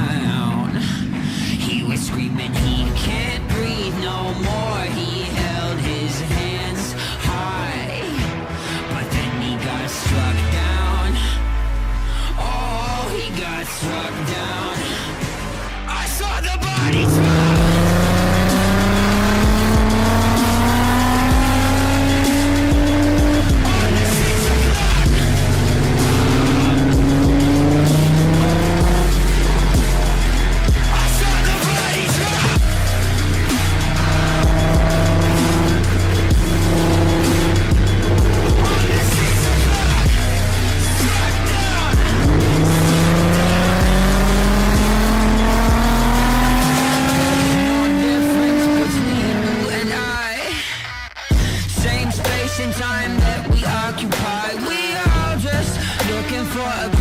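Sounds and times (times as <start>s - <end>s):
car engine accelerating: 0.0s - 7.4s, 8.8s - 50.6s
background music: 0.0s - 57.0s.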